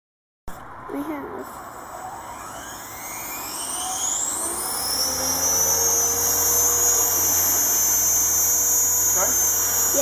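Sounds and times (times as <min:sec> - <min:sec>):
electric motor whine: 0:01.6 - 0:10.0
rotor blades whooshing: 0:01.6 - 0:10.0.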